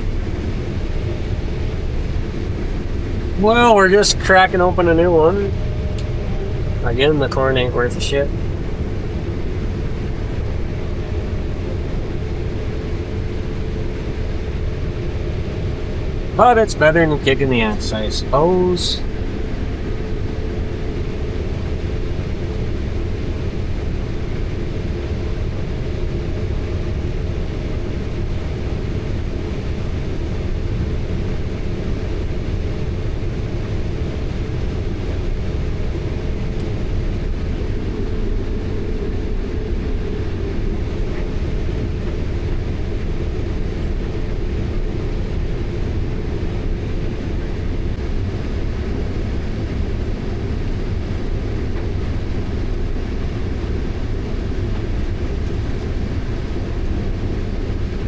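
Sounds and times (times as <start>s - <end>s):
faint steady hum: 0.0s - 58.0s
farm vehicle engine drone: 0.0s - 58.0s.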